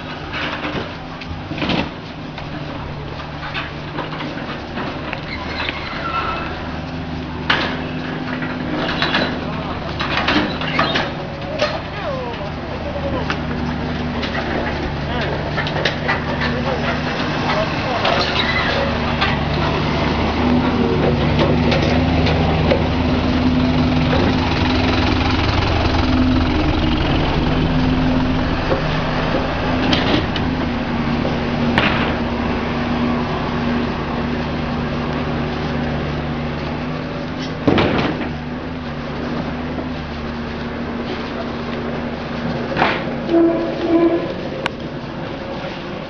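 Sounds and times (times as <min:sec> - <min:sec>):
short engine knocks: 0:00.0 - 0:32.5, 0:34.5 - 0:40.0, 0:41.0 - 0:45.0
engine idling: 0:00.0 - 0:46.0.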